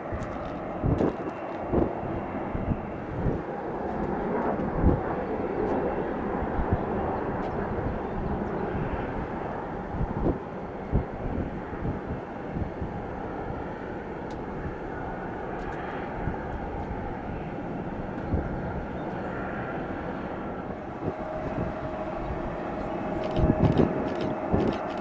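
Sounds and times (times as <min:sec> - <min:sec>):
jet engines running: 0:00.0 - 0:25.0
wind buffeting microphone: 0:00.0 - 0:25.0.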